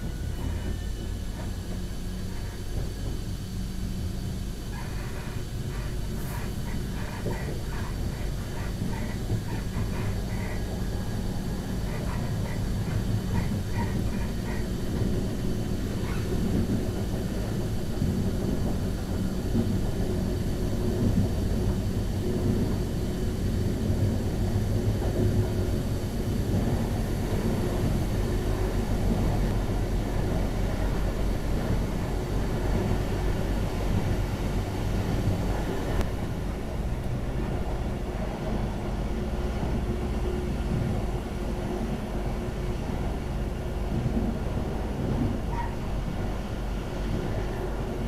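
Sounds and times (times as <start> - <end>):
train engine and wheels drone: 0.0 - 48.0.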